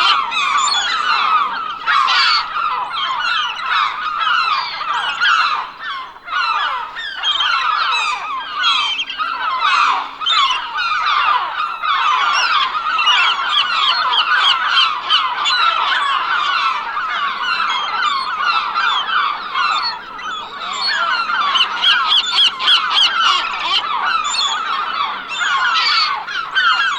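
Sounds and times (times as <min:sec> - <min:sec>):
flock of gulls calling: 0:00.0 - 0:26.9.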